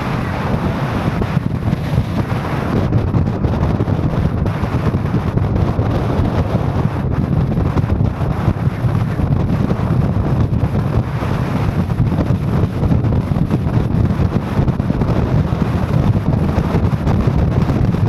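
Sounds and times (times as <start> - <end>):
vehicle driving low rumble: 0.0 - 18.0
wind buffeting microphone: 0.0 - 18.0.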